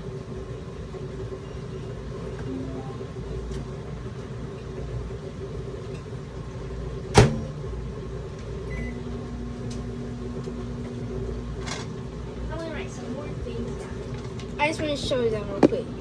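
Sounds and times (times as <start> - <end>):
low background hum: 0.0 - 16.0
microwave oven humming: 0.0 - 16.0.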